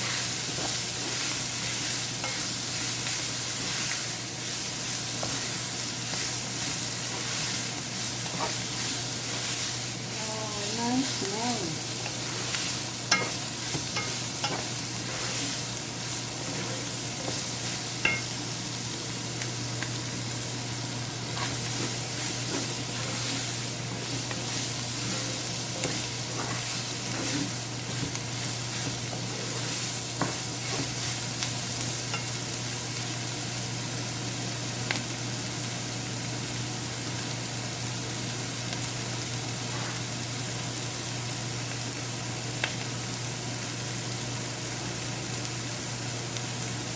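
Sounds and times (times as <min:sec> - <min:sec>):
vegetables sizzling in a frying pan: 0:00.0 - 0:46.9.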